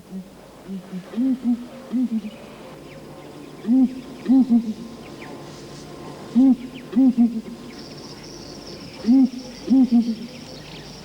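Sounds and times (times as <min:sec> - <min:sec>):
birds deep hooting: 0:00.2 - 0:11.0.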